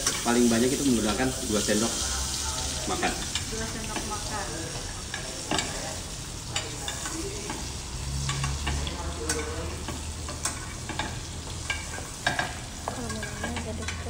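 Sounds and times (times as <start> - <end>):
fish sizzling in butter: 0.0 - 14.0
metal spoon scraping a pan: 0.0 - 14.0.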